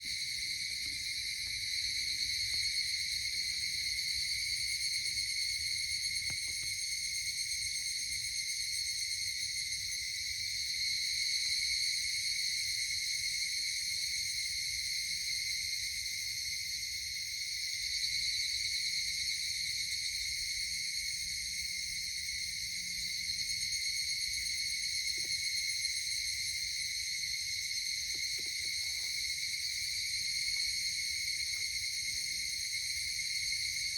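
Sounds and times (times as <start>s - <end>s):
insects trilling: 0.0s - 33.9s.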